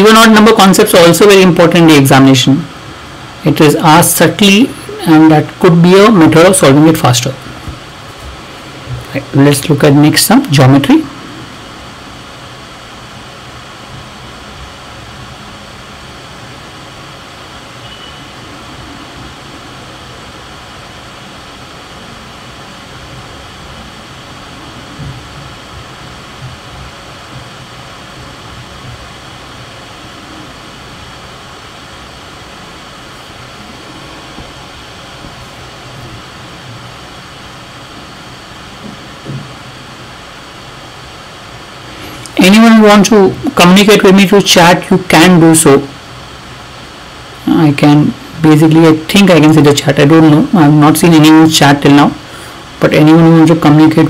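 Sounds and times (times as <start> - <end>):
low hum: 0.0 - 54.0.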